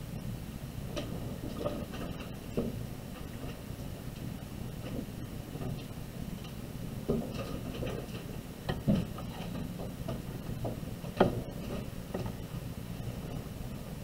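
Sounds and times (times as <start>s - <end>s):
low hum: 0.0s - 14.0s
light clicks and knocks: 0.9s - 13.5s.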